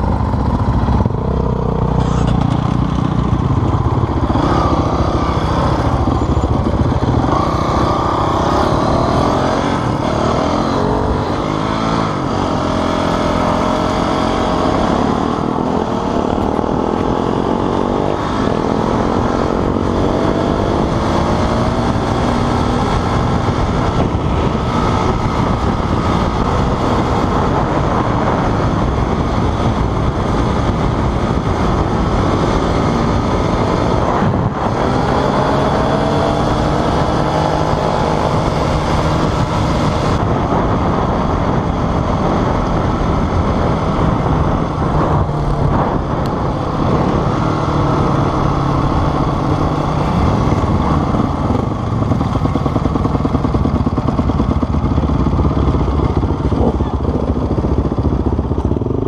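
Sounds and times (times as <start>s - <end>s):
motorcycle engine running: 0.0s - 59.0s
wind rush: 0.0s - 59.0s.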